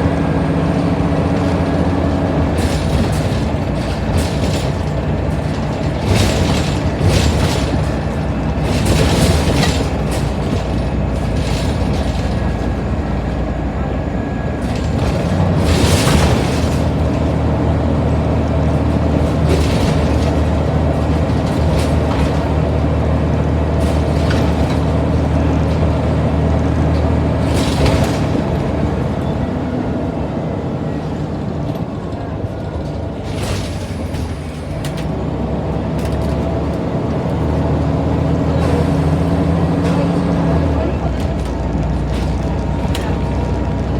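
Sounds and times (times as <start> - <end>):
bus engine running: 0.0 - 43.9.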